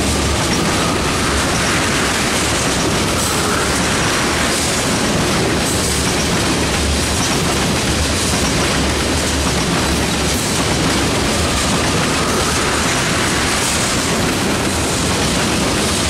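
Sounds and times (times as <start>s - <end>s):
freight train passing: 0.0s - 16.0s.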